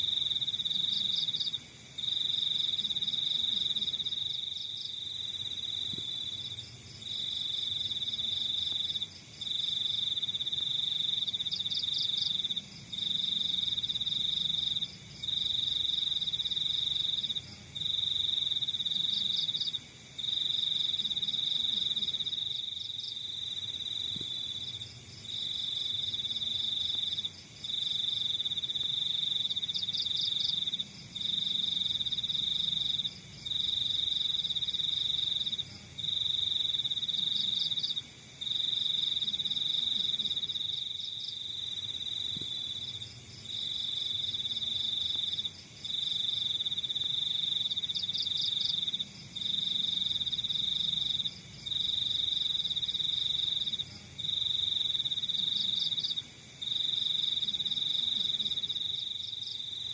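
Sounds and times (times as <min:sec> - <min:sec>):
cricket trilling: 0:00.0 - 0:59.9.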